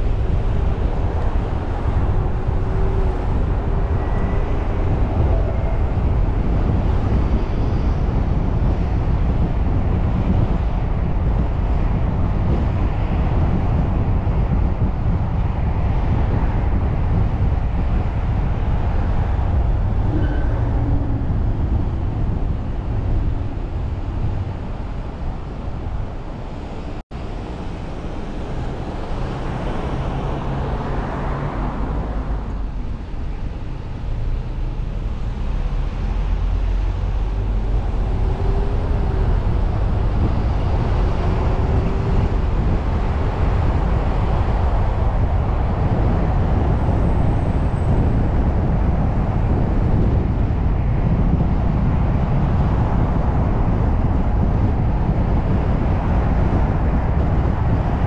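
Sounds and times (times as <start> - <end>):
passing traffic: 0.0 - 58.0
road and tyre noise: 0.0 - 58.0.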